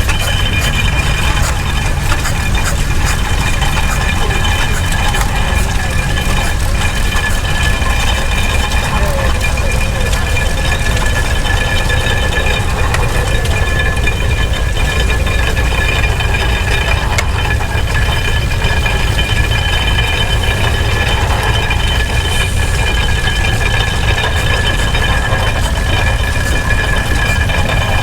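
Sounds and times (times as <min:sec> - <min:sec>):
steam engine rumbling: 0:00.0 - 0:28.0.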